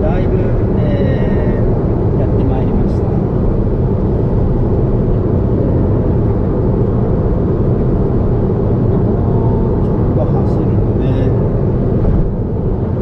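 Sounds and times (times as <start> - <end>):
tyre road noise in car cabin: 0.0 - 13.0.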